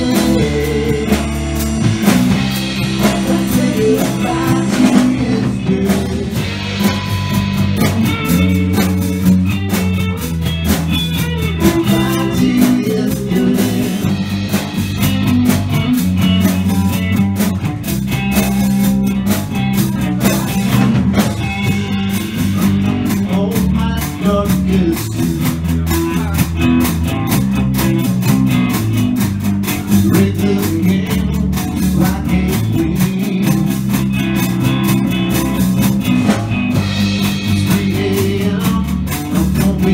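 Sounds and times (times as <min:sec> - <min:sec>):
electric blues band playing: 0:00.0 - 0:39.9.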